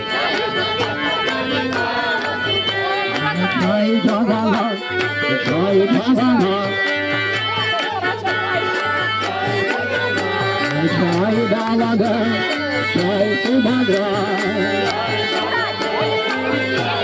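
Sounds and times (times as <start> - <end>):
hand drum: 0.0 - 17.0
steady percussion beat: 0.0 - 17.0.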